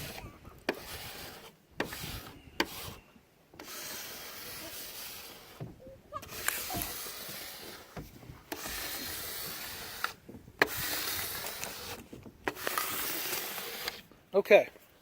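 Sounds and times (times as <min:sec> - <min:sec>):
squeegee scraping over tape: 0:00.0 - 0:15.0.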